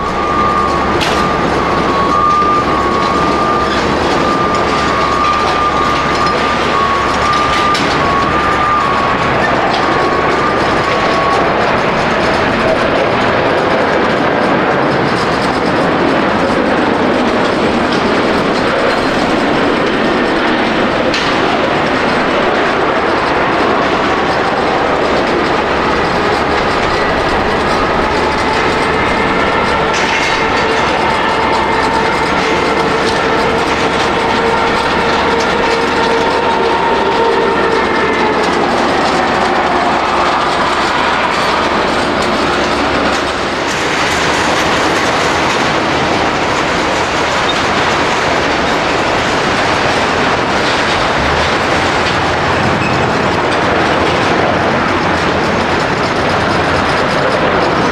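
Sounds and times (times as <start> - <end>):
jet airliner engines roaring: 0.0 - 57.9.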